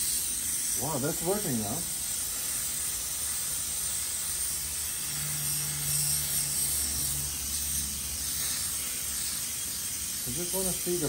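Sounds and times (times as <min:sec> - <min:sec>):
airbrush hissing: 0:00.0 - 0:11.0.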